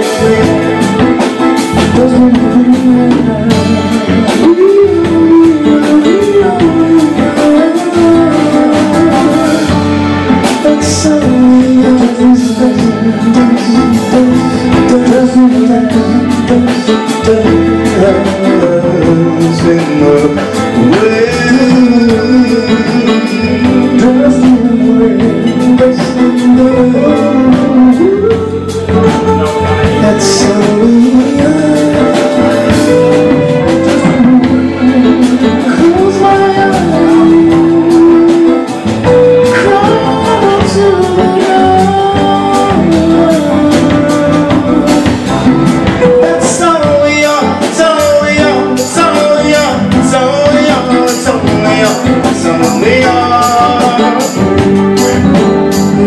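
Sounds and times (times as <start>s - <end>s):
instrumental backing: 0.0s - 56.0s
man singing into a microphone: 0.0s - 56.0s.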